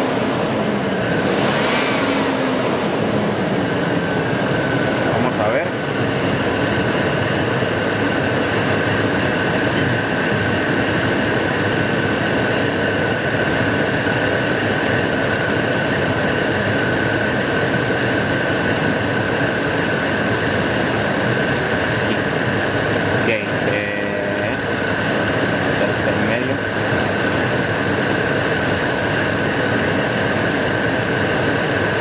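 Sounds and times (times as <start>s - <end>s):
steady high whine: 0.0s - 32.0s
truck engine running: 0.0s - 32.0s.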